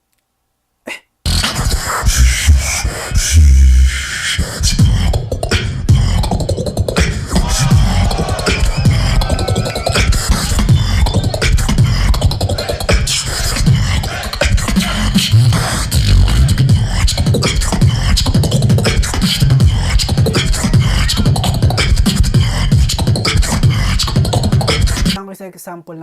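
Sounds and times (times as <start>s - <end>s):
person beatboxing: 0.9s - 25.2s.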